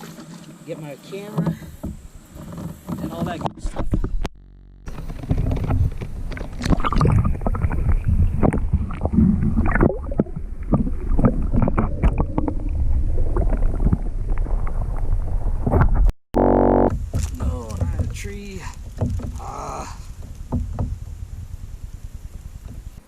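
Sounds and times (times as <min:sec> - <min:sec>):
knocks and clatter in kayak: 0:00.0 - 0:04.3, 0:04.9 - 0:16.1, 0:16.9 - 0:23.0.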